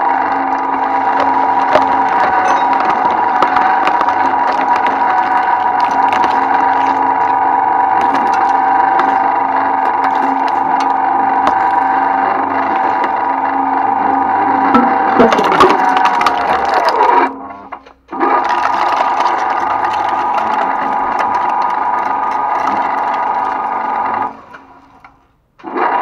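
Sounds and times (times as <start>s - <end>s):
material cracking and snapping: 0.0s - 13.3s, 14.8s - 17.3s, 18.1s - 24.6s
shredder motor whine: 0.0s - 26.0s.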